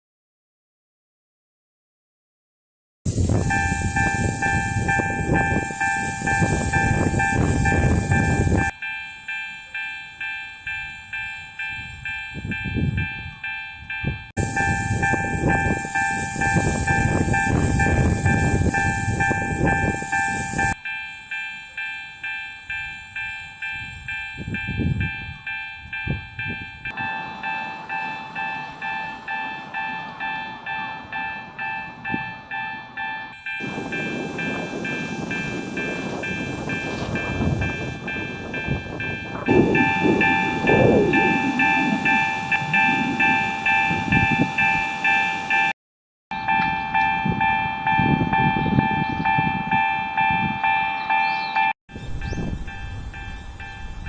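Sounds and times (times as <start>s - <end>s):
railroad crossing bell ringing: 3.1s - 54.0s.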